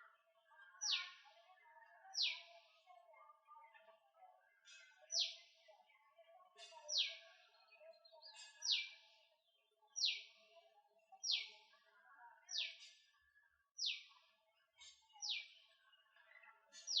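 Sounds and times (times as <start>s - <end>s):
birds chirping softly: 0.0s - 17.0s.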